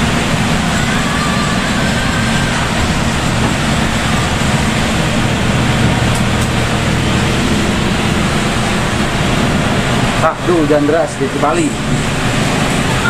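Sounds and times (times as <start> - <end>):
bus engine running: 0.0 - 13.0
heavy rain and road spray hiss: 0.0 - 13.0
tyres on wet road: 0.0 - 13.0.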